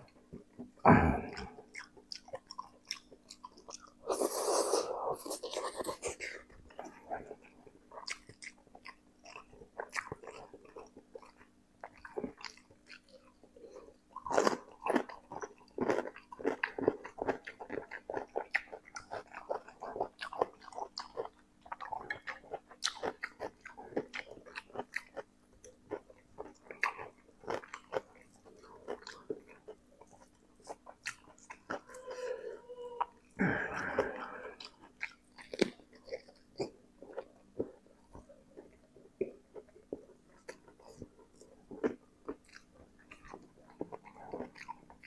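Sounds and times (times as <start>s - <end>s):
chewing noodles: 1.3s - 45.0s.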